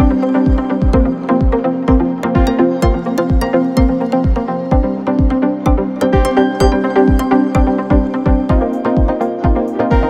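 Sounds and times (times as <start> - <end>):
kick drum: 0.0 - 10.0
sustained synth chords: 0.0 - 10.0.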